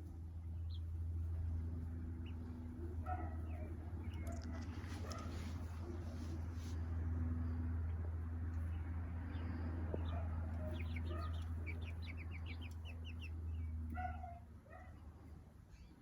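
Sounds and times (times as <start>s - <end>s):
steady low hum: 0.0s - 14.2s
young chickens peeping: 0.0s - 16.0s.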